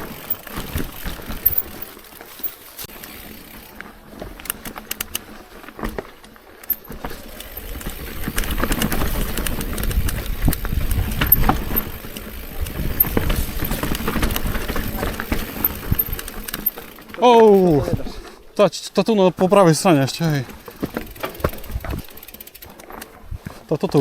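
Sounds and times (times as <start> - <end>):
bike tyres rumbling on rock: 0.0 - 18.5, 19.4 - 24.0
bike rattling: 0.0 - 24.0.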